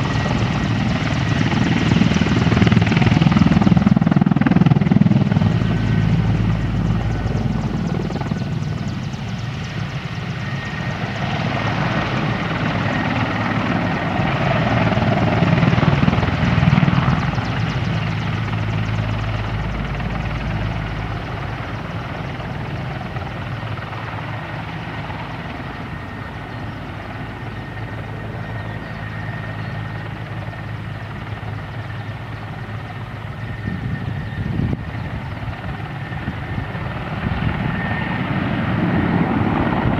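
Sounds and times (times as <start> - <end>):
helicopter rotor beat: 0.0 - 39.9
turbine whine: 0.0 - 39.9.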